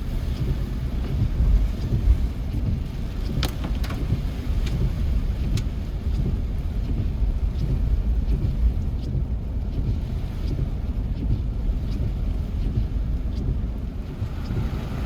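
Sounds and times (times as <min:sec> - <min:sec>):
moving vehicle rumble: 0:00.0 - 0:15.0
faint ticks: 0:00.2 - 0:15.0.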